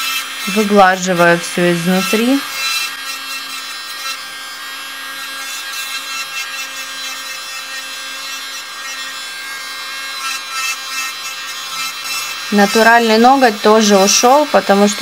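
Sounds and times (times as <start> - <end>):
nail drill motor whine: 0.0 - 15.0.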